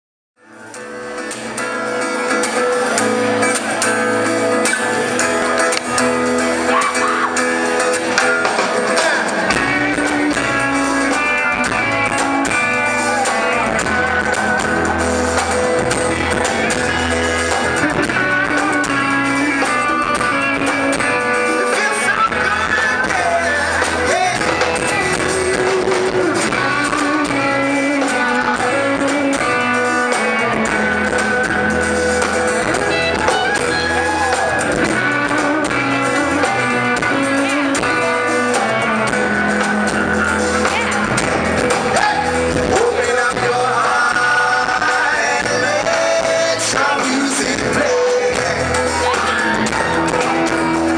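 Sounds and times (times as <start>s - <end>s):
acoustic guitar strumming: 0.6s - 50.9s
man singing: 5.4s - 50.9s.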